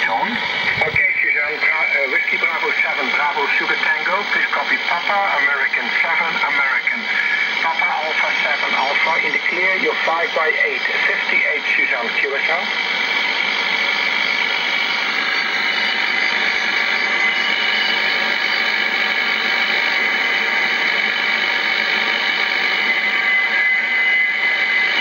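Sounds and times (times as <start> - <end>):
radio band noise hiss: 0.0 - 25.0.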